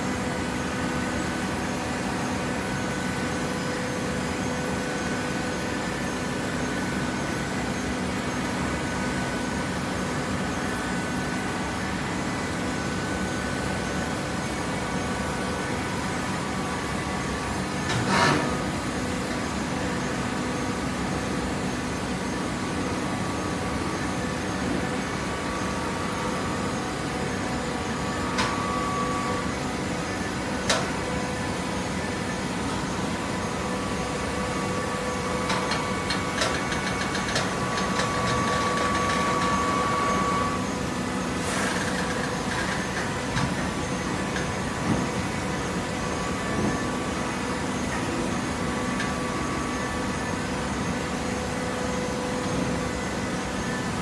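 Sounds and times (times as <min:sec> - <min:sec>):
high machine whine: 0:00.0 - 0:54.0.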